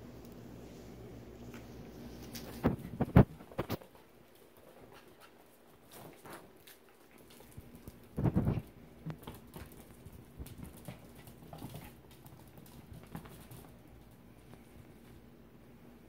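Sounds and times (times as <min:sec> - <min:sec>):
puppy paws pattering on wooden floor: 0:00.2 - 0:15.4.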